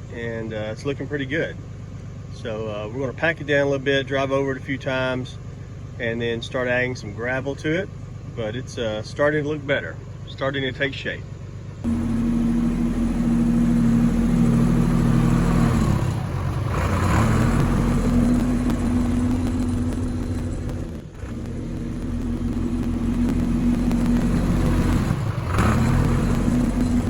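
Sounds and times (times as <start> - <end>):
vehicle engine running under load: 0.0 - 27.0.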